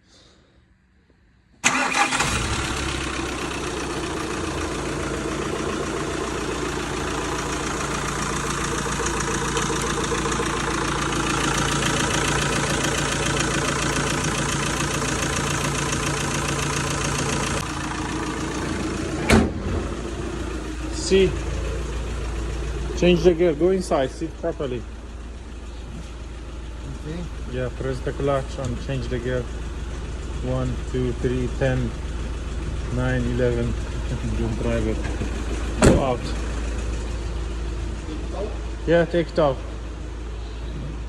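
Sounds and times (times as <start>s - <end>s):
diesel engine starting and idling: 0.2s - 41.0s.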